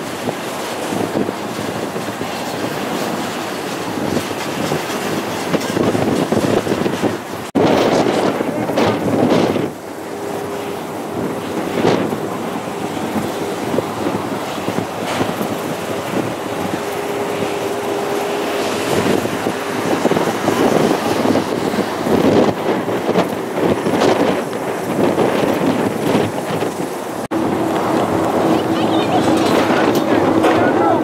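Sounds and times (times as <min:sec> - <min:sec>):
airliner rumble: 0:00.0 - 0:31.0
wind buffeting microphone: 0:00.0 - 0:31.0.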